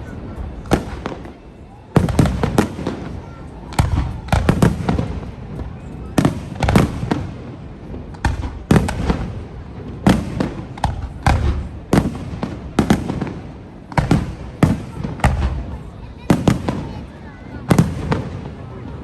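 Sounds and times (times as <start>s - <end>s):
fireworks bursting with echo: 0.0s - 19.0s.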